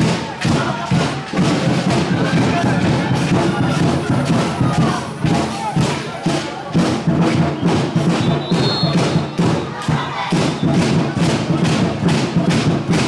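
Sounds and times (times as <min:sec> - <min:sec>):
drum beaten in steady rhythm: 0:00.0 - 0:13.0.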